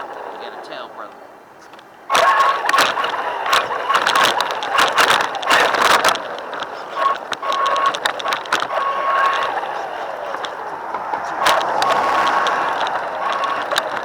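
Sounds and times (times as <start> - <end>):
rc car motor whine: 0.0 - 14.0
wheels crunching over rough ground: 0.0 - 14.0.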